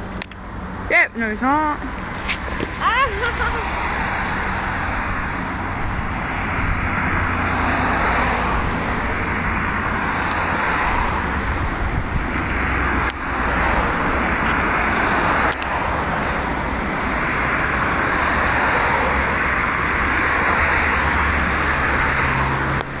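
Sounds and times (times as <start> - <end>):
rush of wind and water: 0.1 - 23.0.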